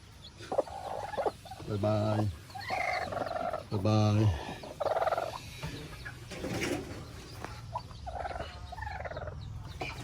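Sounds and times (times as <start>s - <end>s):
chicks peeping: 0.0s - 10.0s
hens clucking: 0.1s - 10.0s.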